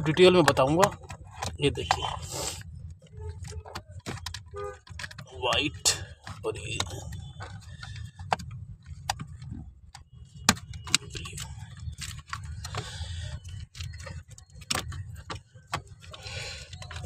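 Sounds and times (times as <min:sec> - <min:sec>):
wire and housing rattles: 0:00.0 - 0:17.0.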